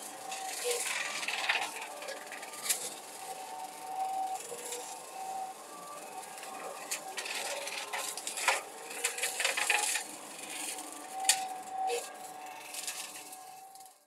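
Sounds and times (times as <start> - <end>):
excavator hydraulic whine: 0.0 - 14.0.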